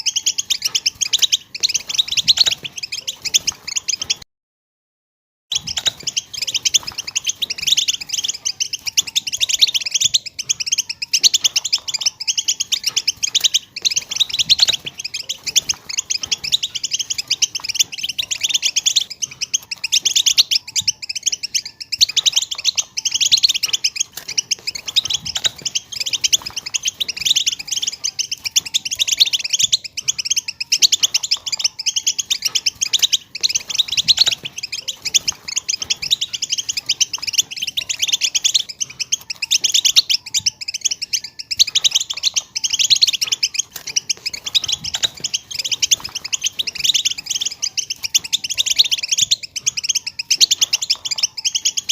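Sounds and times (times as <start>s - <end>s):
goldfinch chattering and twittering: 0.0s - 4.2s, 5.5s - 51.9s.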